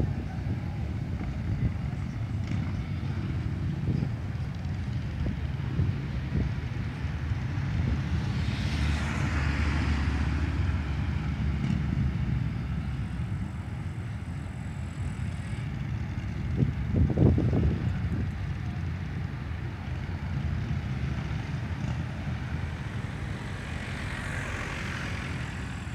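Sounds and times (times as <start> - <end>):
car passing with tyre noise: 0.0 - 25.9
low traffic engine rumble: 0.0 - 25.9.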